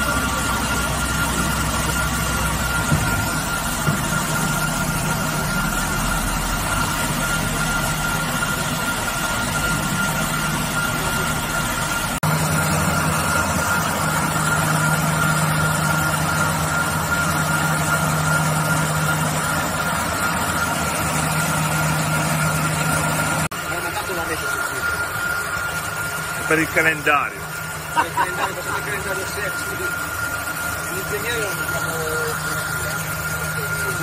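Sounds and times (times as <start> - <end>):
wire saw cutting stone: 0.0 - 34.0.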